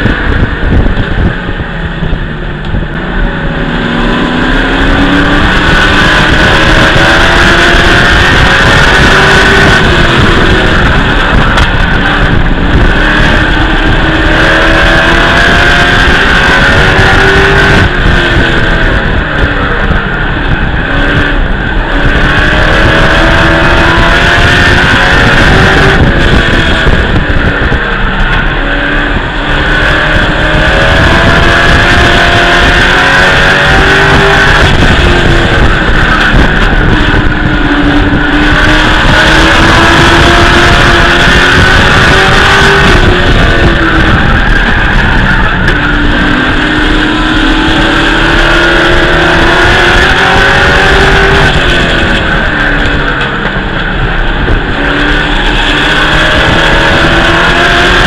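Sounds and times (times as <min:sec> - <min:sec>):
truck engine racing: 0:00.0 - 0:58.0.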